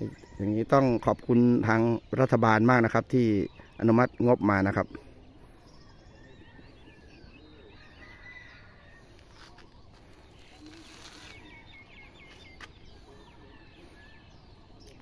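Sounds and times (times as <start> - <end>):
birds calling and chirping: 0.0 - 15.0.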